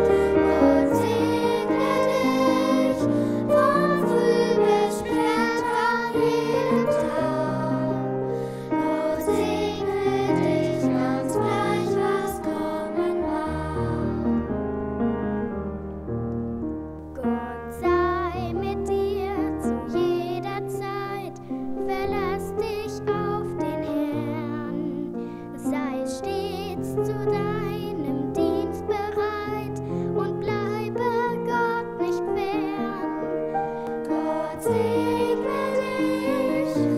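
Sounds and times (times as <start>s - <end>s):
calm lullaby music: 0.0s - 14.6s, 16.7s - 36.9s.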